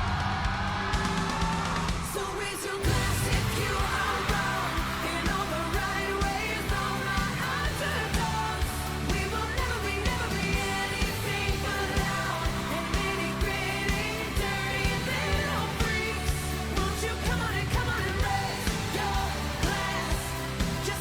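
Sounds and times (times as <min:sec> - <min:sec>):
pop song with sung vocal: 0:00.0 - 0:21.0.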